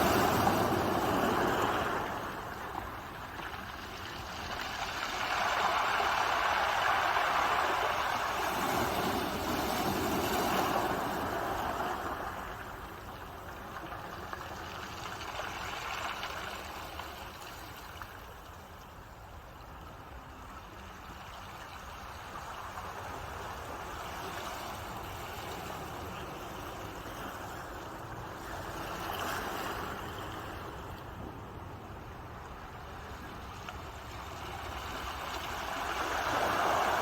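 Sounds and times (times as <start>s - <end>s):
ocean waves washing on shore: 0.0s - 37.0s.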